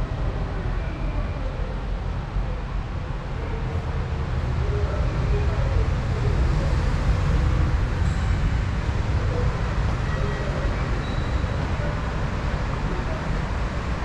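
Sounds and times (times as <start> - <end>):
low station rumble: 0.0 - 14.0.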